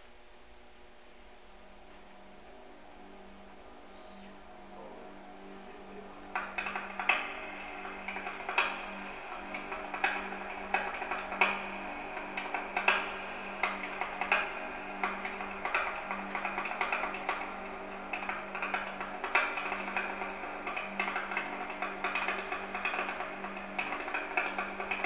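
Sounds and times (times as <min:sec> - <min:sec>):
low drone: 0:01.3 - 0:25.0.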